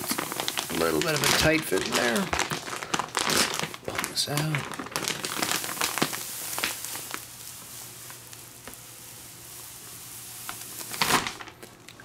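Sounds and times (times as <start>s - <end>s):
plastic wrapper crackles: 0.0s - 12.0s
plastic wrapper hissing: 0.0s - 12.0s
plastic wrapper rustle: 0.0s - 12.0s.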